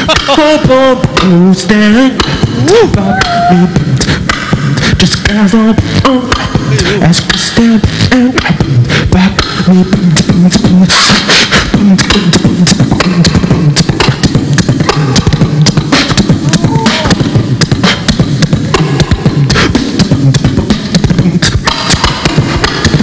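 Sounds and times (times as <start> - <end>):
vocal beatboxing: 0.0 - 23.0.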